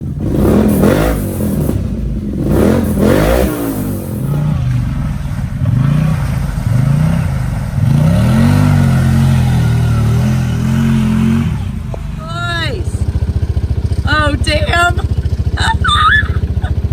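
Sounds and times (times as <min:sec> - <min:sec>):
atv engine revving: 0:00.0 - 0:16.9.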